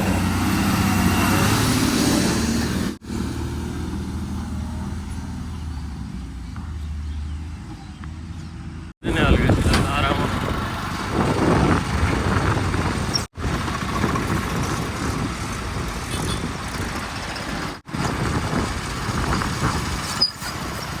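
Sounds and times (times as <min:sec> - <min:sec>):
diesel engines rumbling: 0:00.0 - 0:21.0.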